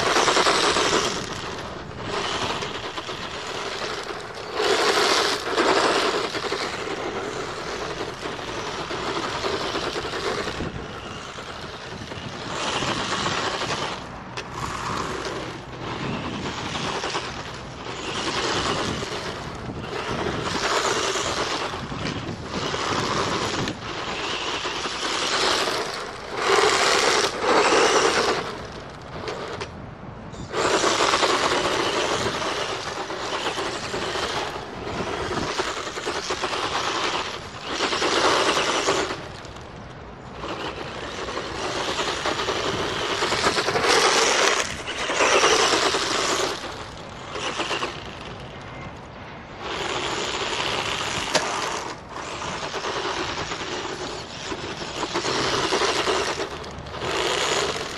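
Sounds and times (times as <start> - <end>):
electric motor and gears whirring: 0.0 - 57.9
tyres scraping gravel: 0.0 - 57.9.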